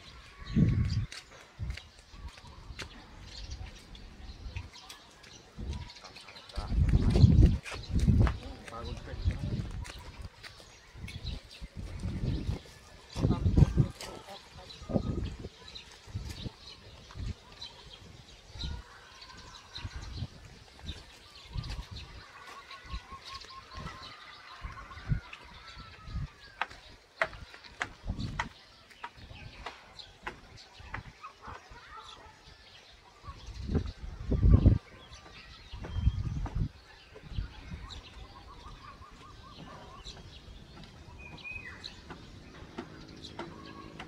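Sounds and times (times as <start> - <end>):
birds chirping and calling: 0.0 - 44.0.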